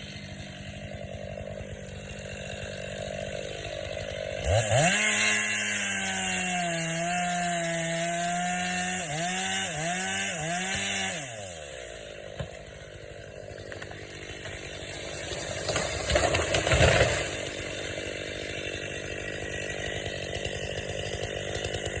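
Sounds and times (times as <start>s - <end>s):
chainsaw running: 0.0s - 22.0s.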